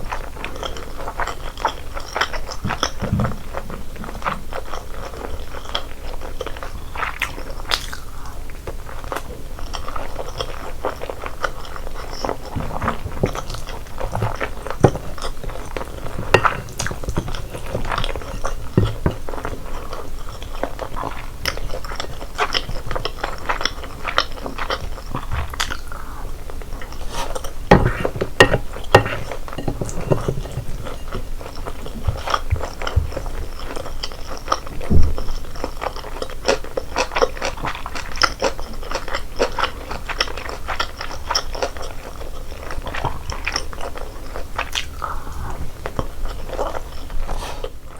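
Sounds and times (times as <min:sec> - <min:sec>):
person chewing crunchy food: 0:00.0 - 0:47.8.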